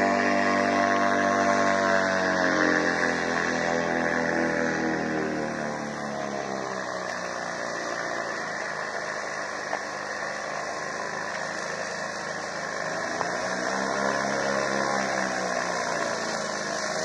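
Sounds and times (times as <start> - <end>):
aircraft engine running: 0.0 - 17.0.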